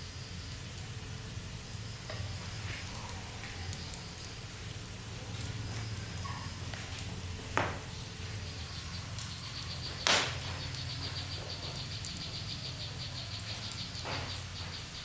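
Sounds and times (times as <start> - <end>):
low fire rumble: 0.0 - 15.0
wood fire crackling: 0.0 - 15.0
sharp pops from fire: 0.1 - 15.0.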